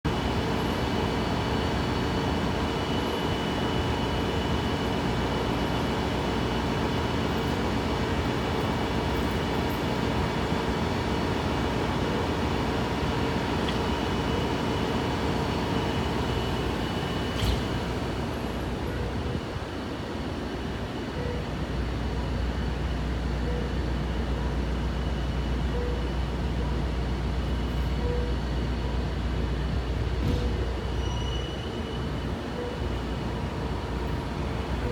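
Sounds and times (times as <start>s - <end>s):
locomotive engine humming: 0.0s - 34.9s.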